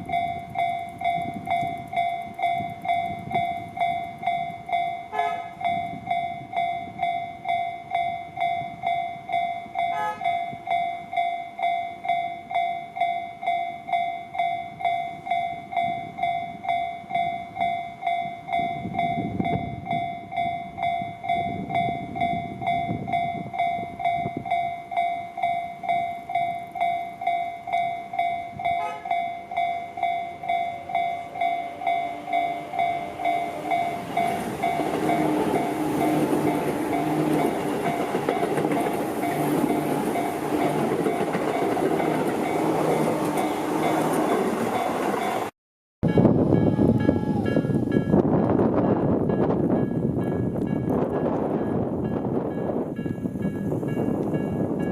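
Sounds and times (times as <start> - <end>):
approaching train running noise: 0.0 - 54.9
level-crossing warning bell: 0.0 - 54.9.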